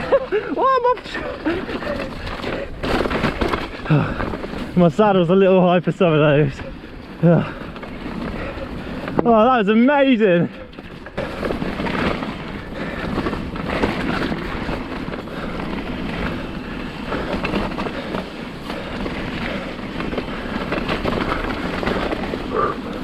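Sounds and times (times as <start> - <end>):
bike knocking and rattling: 0.0 - 23.0
bike tyres on dirt: 0.0 - 23.0.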